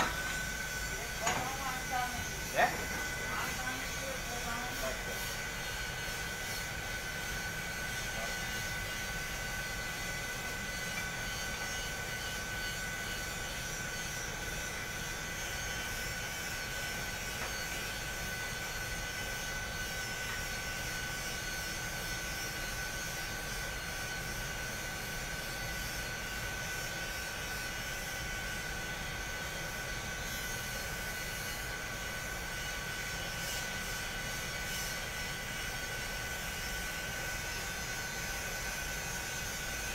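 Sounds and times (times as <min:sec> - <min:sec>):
constant high whine: 0:00.0 - 0:39.9
fans and motors droning: 0:00.0 - 0:39.9.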